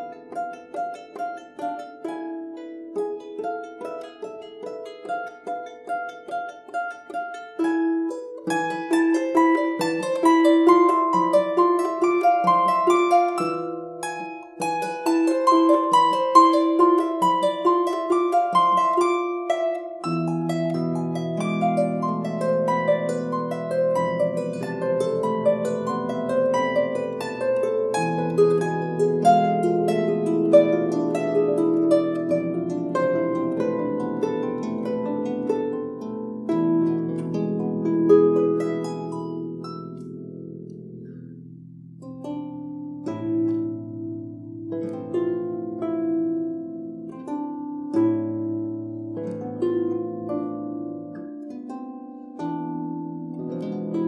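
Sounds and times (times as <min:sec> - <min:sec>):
harp melody: 0:00.0 - 0:54.0.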